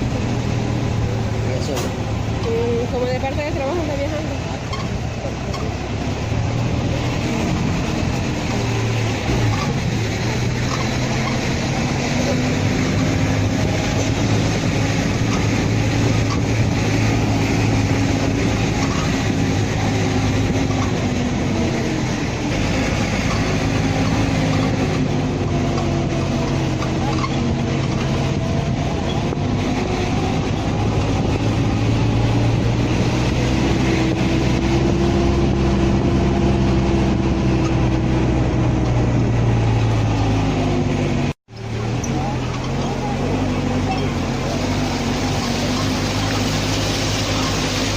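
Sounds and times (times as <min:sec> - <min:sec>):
road noise: 0:00.0 - 0:47.9
vehicle engine drone: 0:00.0 - 0:47.9.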